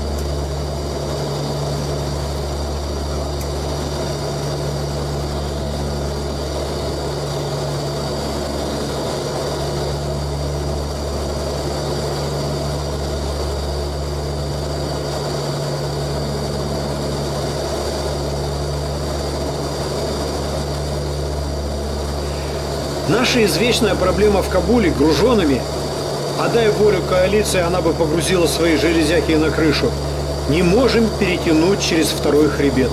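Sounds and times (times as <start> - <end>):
turboprop engines droning: 0.0 - 32.9.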